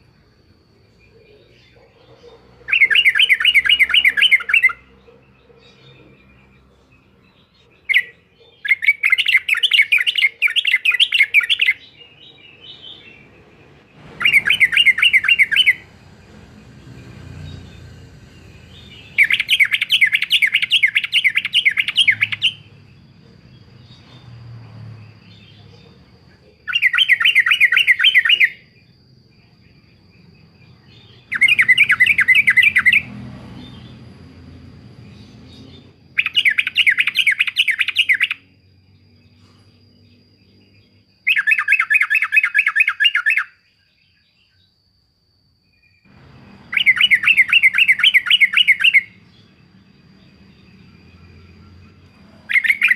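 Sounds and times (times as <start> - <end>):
bird singing chattering phrases: 0.9 - 38.5, 46.1 - 52.9.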